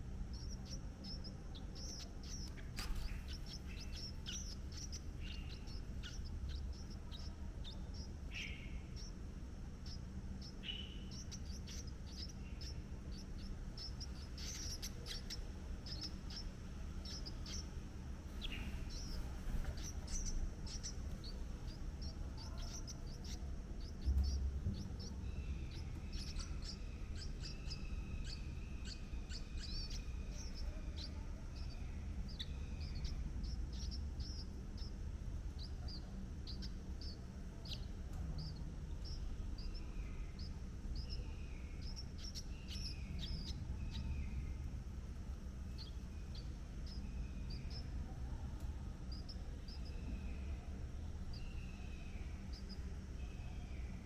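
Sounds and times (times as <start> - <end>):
birds chirping: 0.0 - 54.0
low background rumble: 0.0 - 54.0.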